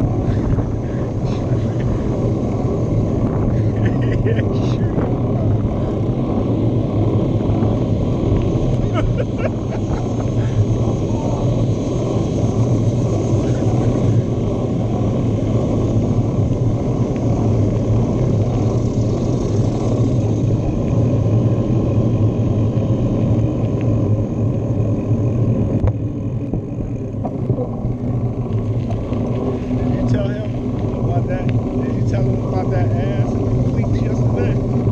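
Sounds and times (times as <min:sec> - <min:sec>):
bicycle tyre noise on pavement: 0:00.0 - 0:34.9
wind rumble on microphone: 0:00.0 - 0:34.9.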